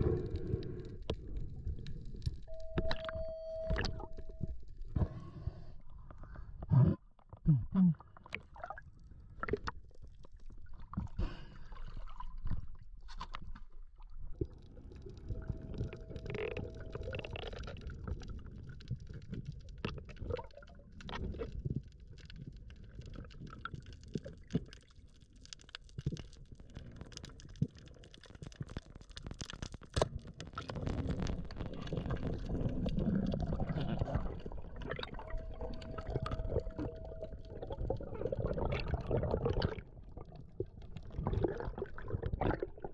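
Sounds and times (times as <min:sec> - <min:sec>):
underwater rumble and gurgle: 0:00.0 - 0:42.9.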